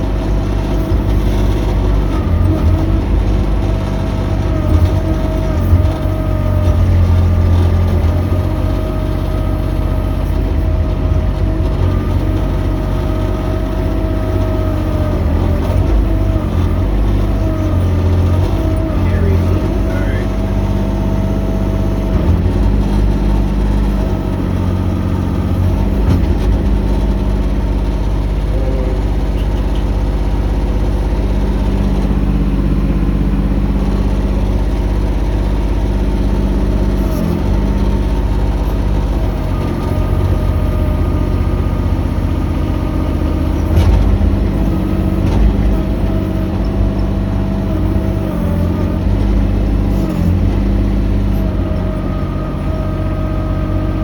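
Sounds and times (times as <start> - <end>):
excavator engine running: 0.0 - 54.0
hydraulic whine: 0.0 - 54.0.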